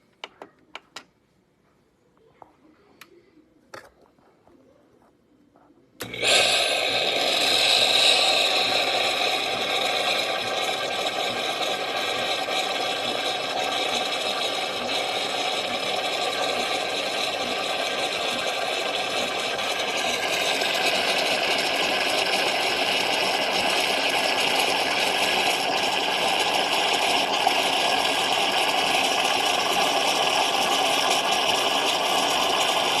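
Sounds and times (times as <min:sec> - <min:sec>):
coffee machine buzzing: 0:06.0 - 0:33.0.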